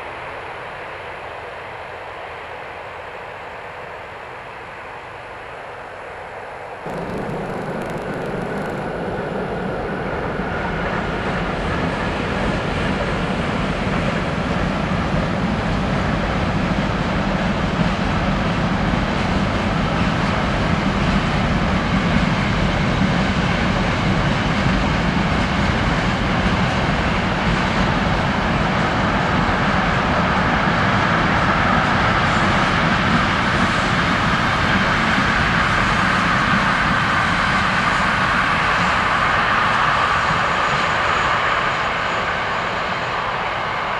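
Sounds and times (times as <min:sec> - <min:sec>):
train wheels rumbling on rails: 0:06.9 - 0:43.9.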